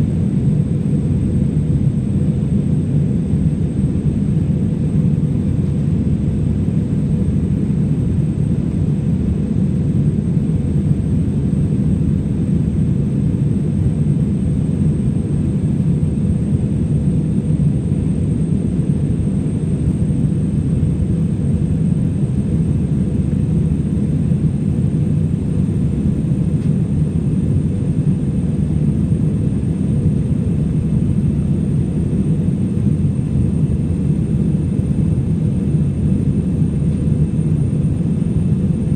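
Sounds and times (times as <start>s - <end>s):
jet engine roar in airliner cabin: 0.0s - 38.9s.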